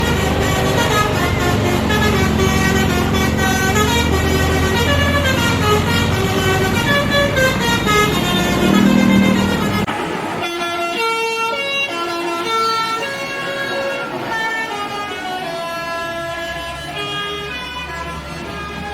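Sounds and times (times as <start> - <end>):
bus engine rumble: 0.0 - 18.9
musical bus horn melody: 0.0 - 18.9.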